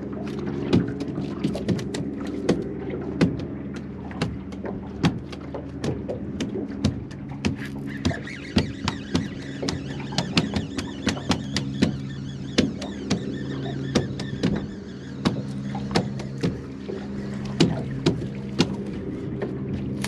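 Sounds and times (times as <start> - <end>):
boat motor hum: 0.0 - 20.0
high whine: 0.0 - 20.0
water slapping hull: 0.0 - 20.0.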